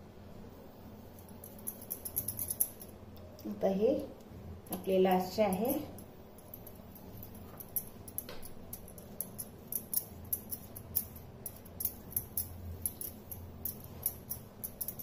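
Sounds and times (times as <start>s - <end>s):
faint low hum: 0.0s - 15.0s
metal bangles clinking: 1.1s - 3.5s, 4.6s - 15.0s.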